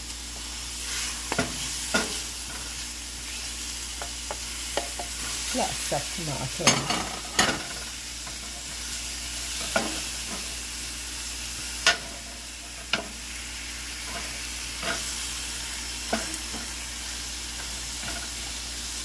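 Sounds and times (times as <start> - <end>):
vegetables sizzling in a frying pan: 0.0 - 19.0.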